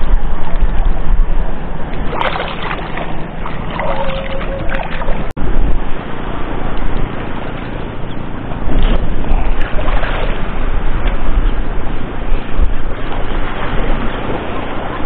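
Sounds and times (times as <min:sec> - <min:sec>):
water splashing and sloshing: 0:00.0 - 0:15.0
wind buffeting microphone: 0:00.0 - 0:15.0.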